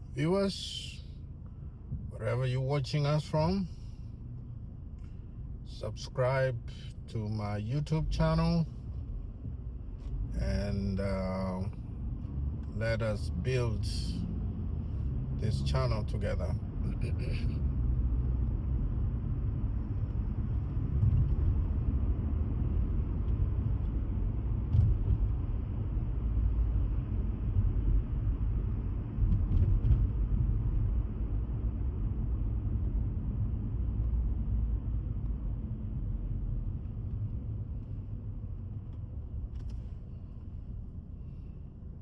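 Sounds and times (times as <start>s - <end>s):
car road rumble inside cabin: 0.0s - 42.0s.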